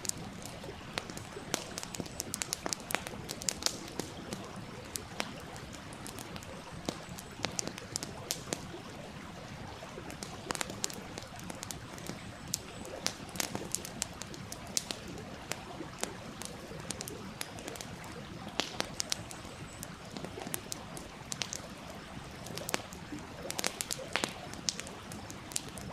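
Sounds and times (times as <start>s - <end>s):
campfire crackling: 0.0s - 25.9s
flowing stream: 0.0s - 25.9s.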